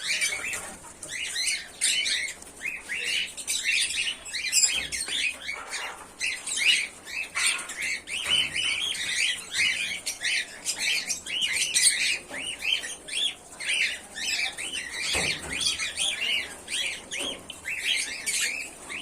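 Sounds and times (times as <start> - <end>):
cockatiels chirping: 0.0 - 19.0.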